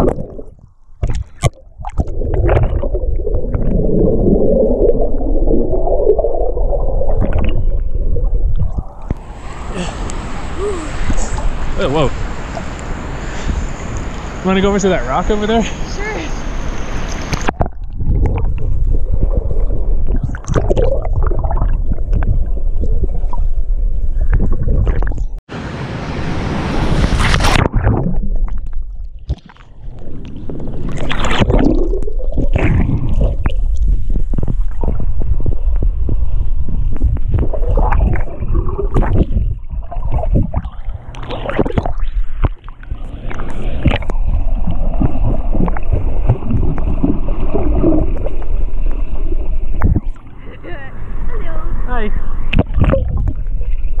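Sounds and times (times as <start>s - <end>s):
underwater rushing and gurgling: 0.0s - 54.0s.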